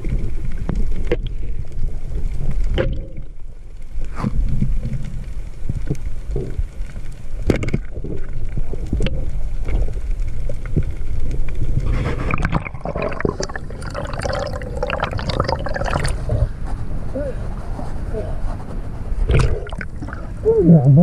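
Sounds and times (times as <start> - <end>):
bubbling and crackling: 0.0 - 21.0
water gurgling and sloshing: 0.0 - 21.0.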